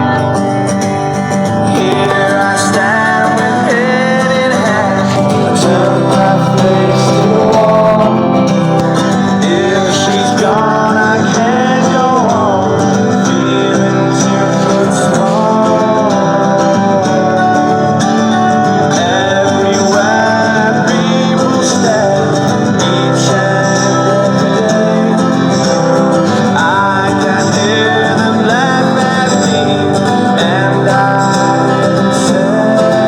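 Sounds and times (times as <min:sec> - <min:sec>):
man singing over guitars: 0:00.0 - 0:33.0.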